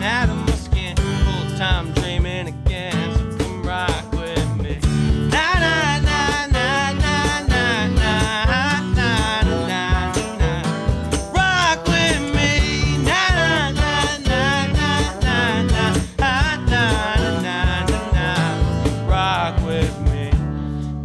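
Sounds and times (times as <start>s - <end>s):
steady drum beat: 0.0s - 20.6s.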